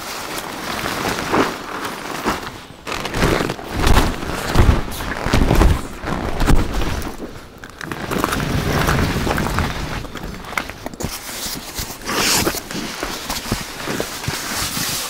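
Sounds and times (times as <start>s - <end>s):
nylon tent fabric rustling and flapping: 0.0s - 15.0s.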